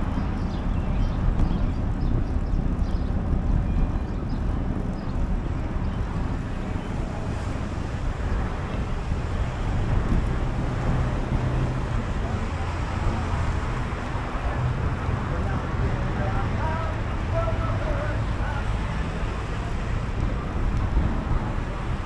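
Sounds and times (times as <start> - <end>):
passing road traffic: 0.0 - 22.0
wind rumble on microphone: 0.0 - 22.0.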